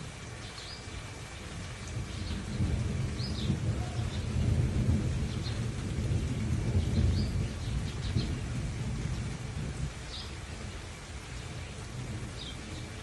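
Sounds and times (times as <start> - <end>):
steady rain: 0.0 - 13.0
thunder rumbling: 1.5 - 13.0.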